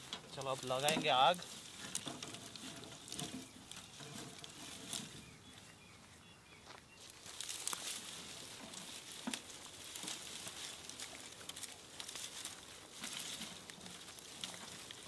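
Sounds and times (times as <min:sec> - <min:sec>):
twigs rustling and snapping: 0:00.0 - 0:05.7, 0:06.6 - 0:15.0.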